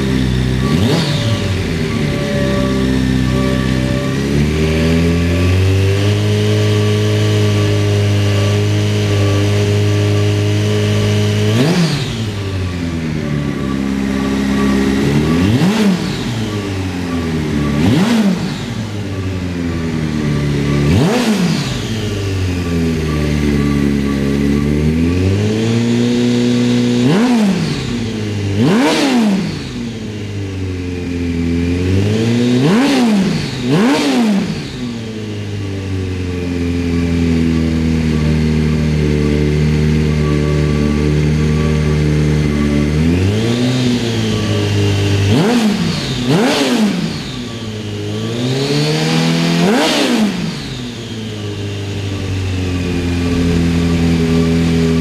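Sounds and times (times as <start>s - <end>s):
engine throttle blips: 0.0s - 55.0s
motorcycle engine idling: 0.0s - 55.0s.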